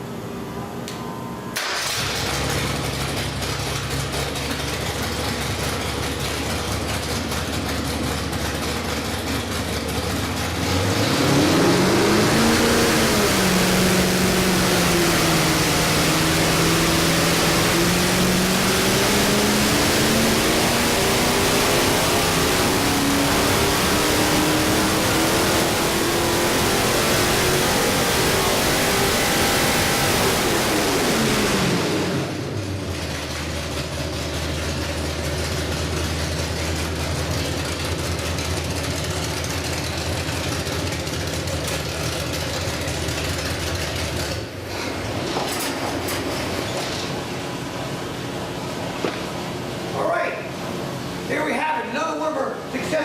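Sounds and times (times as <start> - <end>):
engine idling and revving: 1.6 - 51.4.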